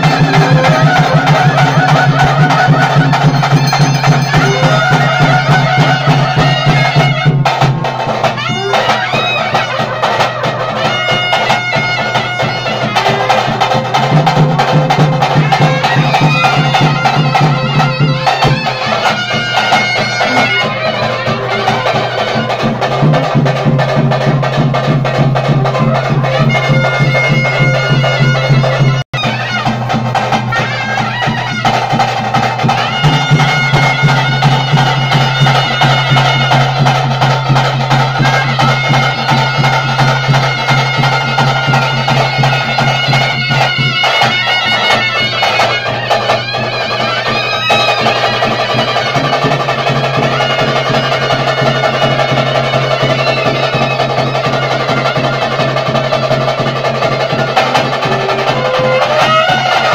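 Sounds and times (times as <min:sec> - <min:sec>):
drums: 0:00.0 - 0:59.9
reedy wind instrument melody: 0:00.0 - 0:59.9.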